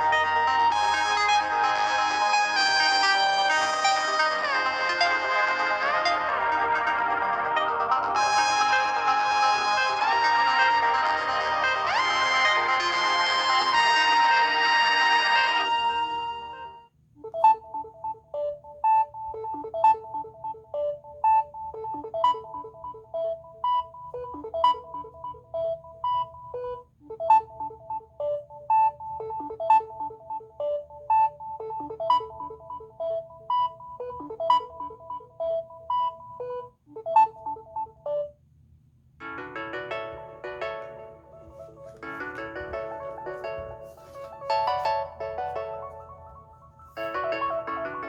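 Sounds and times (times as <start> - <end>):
phone ringtone melody: 0.0 - 38.4, 39.2 - 48.0.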